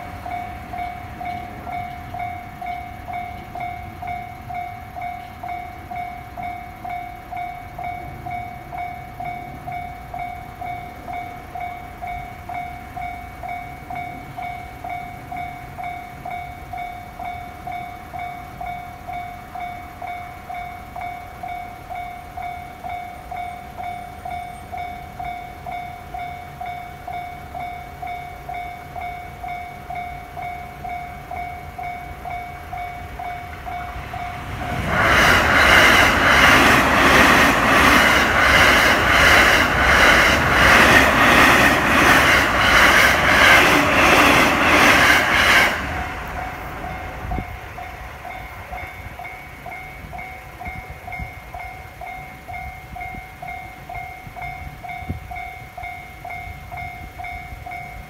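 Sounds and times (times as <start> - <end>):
approaching train rumble: 0.0 - 58.0.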